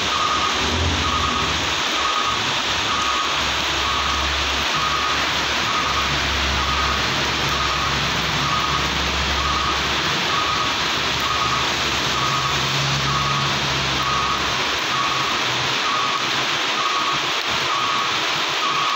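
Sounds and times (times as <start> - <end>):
heavy rain on pavement: 0.0 - 18.9
truck engines rumbling: 0.0 - 18.9.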